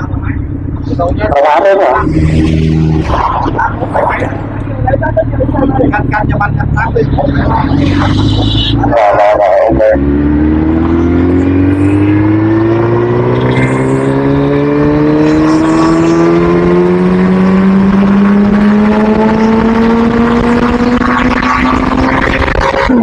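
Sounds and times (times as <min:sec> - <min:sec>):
vehicle engine accelerating: 0:00.0 - 0:23.0.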